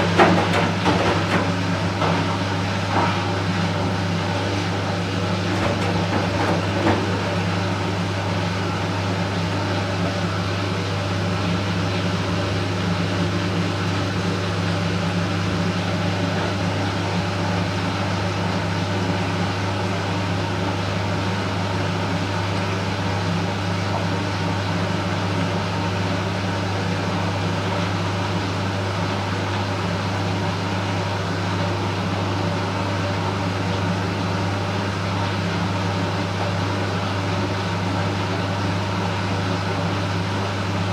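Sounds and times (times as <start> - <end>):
washing machine hum: 0.0 - 40.9.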